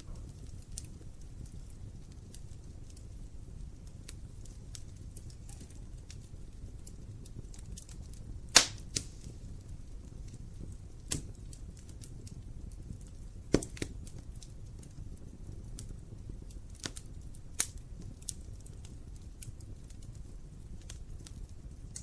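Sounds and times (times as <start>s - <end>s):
fire rumbling: 0.0s - 22.0s
logs crackling and popping: 0.0s - 22.0s.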